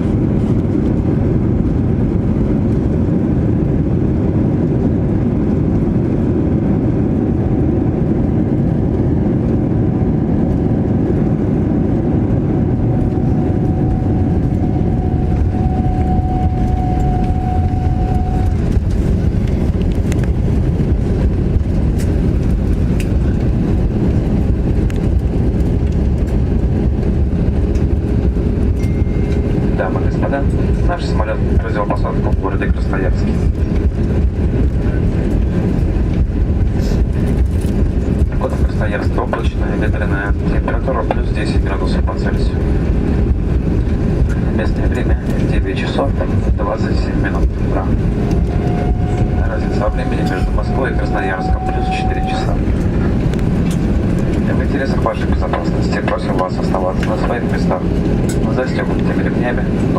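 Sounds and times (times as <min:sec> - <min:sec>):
airliner cabin rumble: 0:00.0 - 0:59.9
faint whine: 0:05.2 - 0:59.9.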